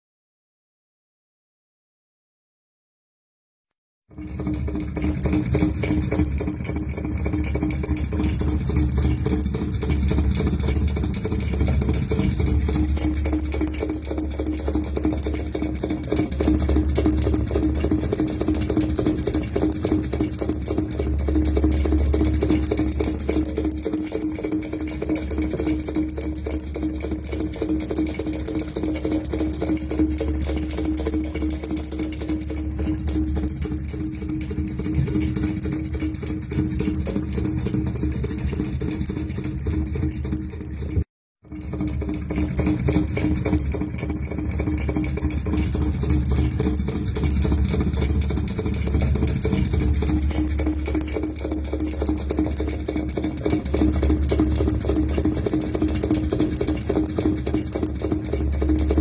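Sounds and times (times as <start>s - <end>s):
steady hum: 4.1s - 41.0s, 41.6s - 59.0s
stationary engine knocking: 4.1s - 59.0s.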